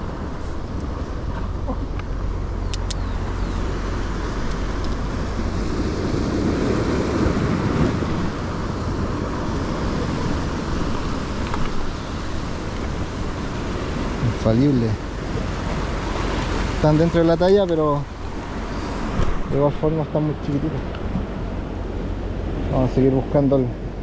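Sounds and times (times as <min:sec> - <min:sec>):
surf washing over rocks: 0:00.0 - 0:24.0
wind rumbling on microphone: 0:00.0 - 0:24.0.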